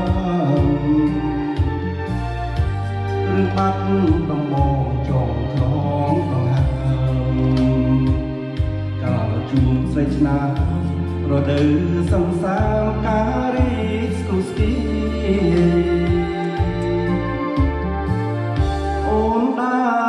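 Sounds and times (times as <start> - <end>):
backing track with bass notes: 0.0 - 20.0
person singing karaoke: 0.0 - 20.0.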